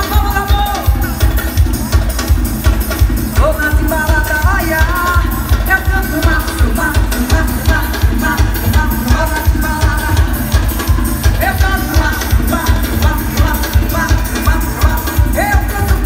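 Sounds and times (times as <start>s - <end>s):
person singing: 0.0s - 1.6s, 3.3s - 16.0s
heavy drum beat: 0.0s - 16.0s.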